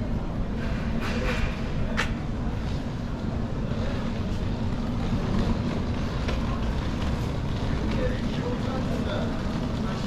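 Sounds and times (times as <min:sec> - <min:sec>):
city street rumble: 0:00.0 - 0:10.0.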